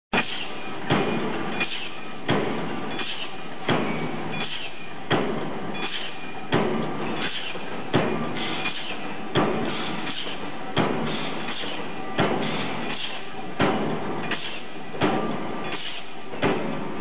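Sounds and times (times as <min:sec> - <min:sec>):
machine running noise: 0:00.1 - 0:17.0
punch press metal strokes: 0:00.2 - 0:16.9.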